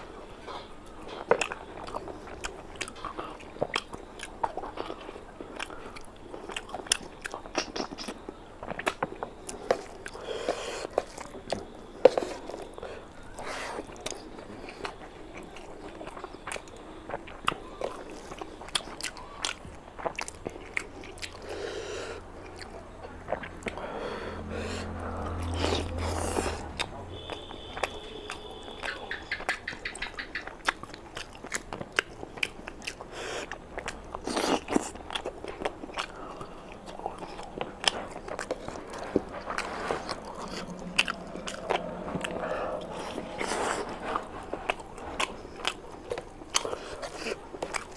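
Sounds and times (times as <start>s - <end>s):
wet chewing: 0.0s - 47.9s.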